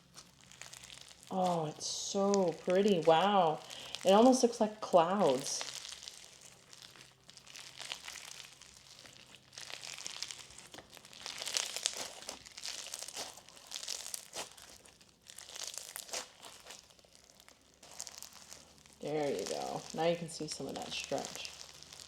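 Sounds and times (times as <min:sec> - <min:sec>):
foam beads crackling and popping: 0:00.0 - 0:22.0
slime being kneaded and stretched: 0:00.0 - 0:22.0.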